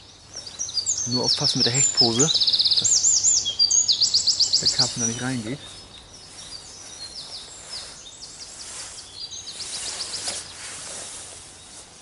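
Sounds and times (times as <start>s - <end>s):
faint background hiss: 0.0s - 12.0s
songbirds singing: 0.0s - 12.0s.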